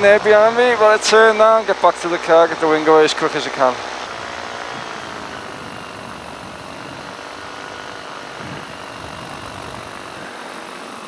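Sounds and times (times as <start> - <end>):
paramotor engine running: 0.0 - 11.0.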